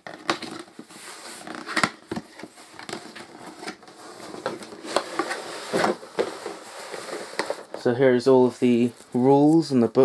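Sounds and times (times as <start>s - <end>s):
cardboard rustling: 0.3s - 9.7s.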